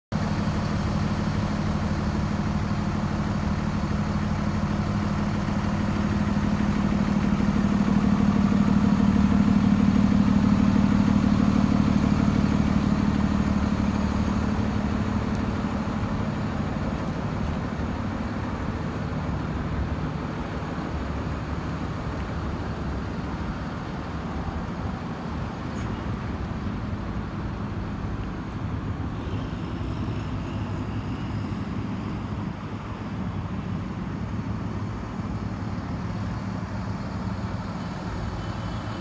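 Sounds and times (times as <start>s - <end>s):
diesel engine idling: 0.1s - 39.0s.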